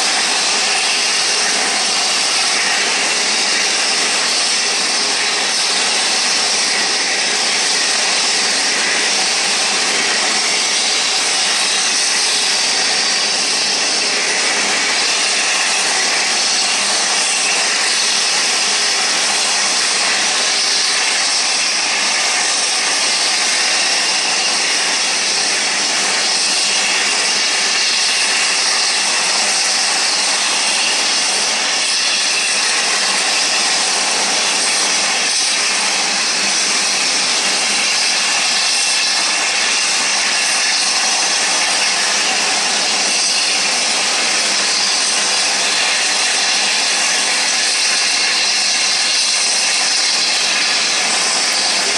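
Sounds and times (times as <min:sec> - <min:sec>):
jet engines idling whine: 0:00.0 - 0:51.9.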